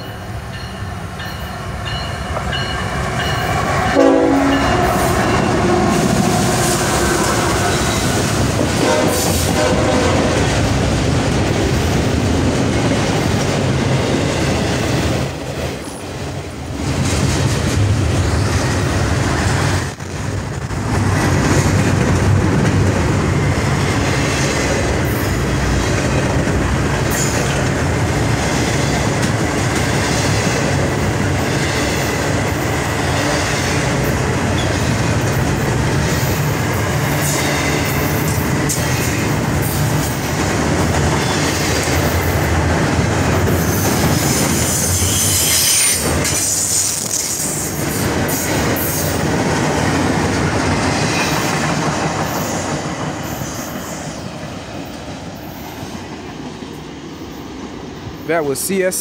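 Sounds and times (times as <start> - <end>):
freight train cars passing: 0.0 - 59.0
wheels rushing on rail: 0.0 - 59.0.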